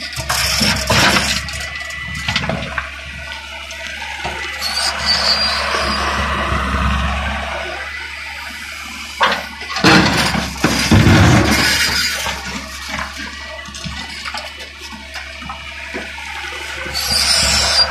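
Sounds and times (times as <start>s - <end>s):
excavator engine running: 0.0s - 17.9s.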